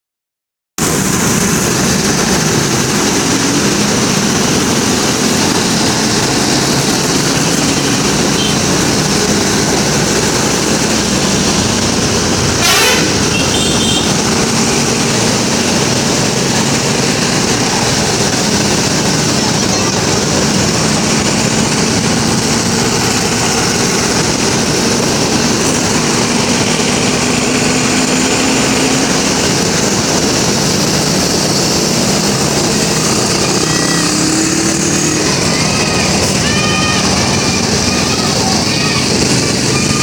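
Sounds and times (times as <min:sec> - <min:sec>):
bus running: 0:00.8 - 0:40.0.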